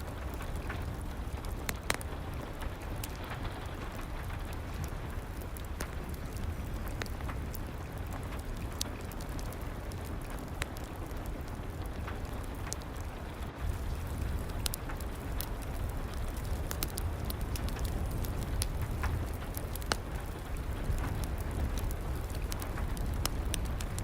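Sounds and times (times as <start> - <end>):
steady rain: 0.0 - 24.0
wood fire crackling: 0.0 - 24.0.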